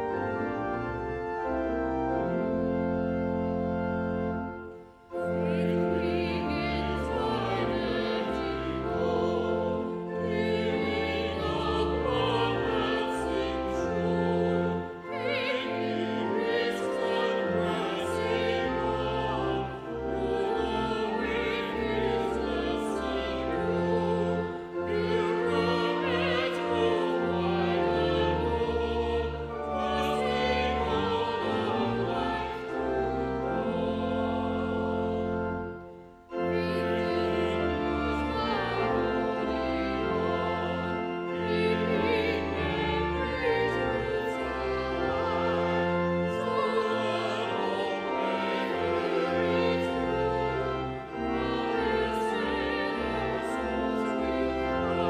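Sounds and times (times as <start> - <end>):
sacred choral singing: 0.0 - 55.0.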